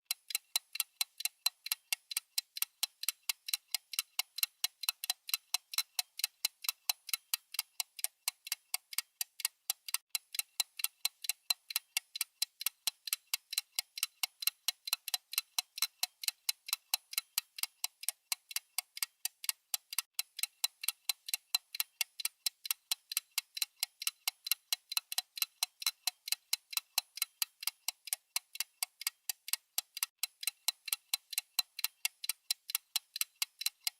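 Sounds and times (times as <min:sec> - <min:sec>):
watch ticking: 0:00.1 - 0:33.9.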